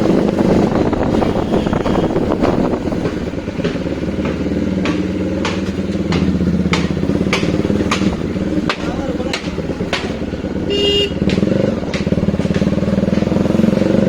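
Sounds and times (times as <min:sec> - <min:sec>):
motorcycle exhaust note: 0:00.0 - 0:14.0.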